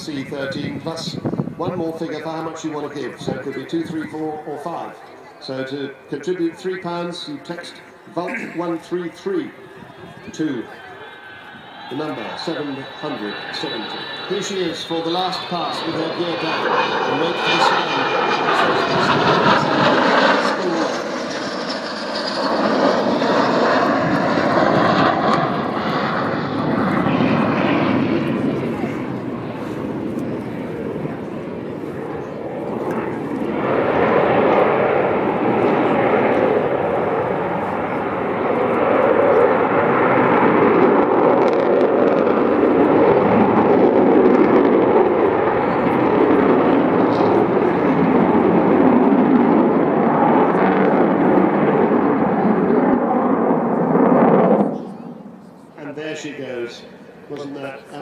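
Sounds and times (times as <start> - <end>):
jet aircraft roaring overhead: 0.0 - 58.0.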